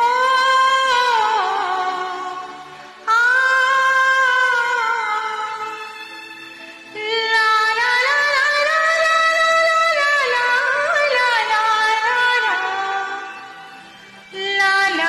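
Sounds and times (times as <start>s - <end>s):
film song with sliding melody: 0.0s - 15.0s.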